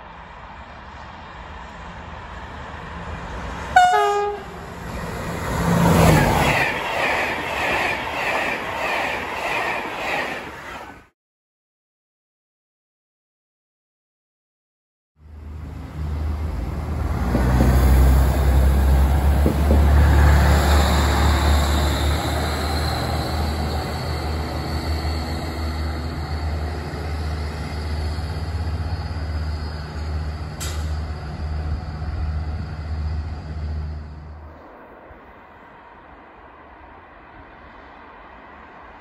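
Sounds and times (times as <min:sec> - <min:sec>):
diesel railcar passing: 0:00.0 - 0:11.1, 0:15.2 - 0:39.0.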